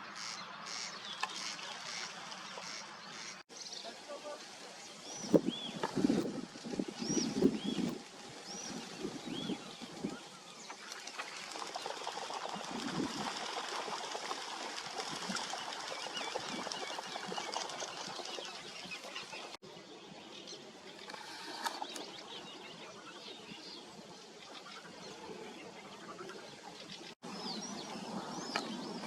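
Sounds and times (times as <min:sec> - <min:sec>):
waterbirds' wingbeats fluttering: 0:00.2 - 0:03.4, 0:04.3 - 0:19.6, 0:20.8 - 0:29.0.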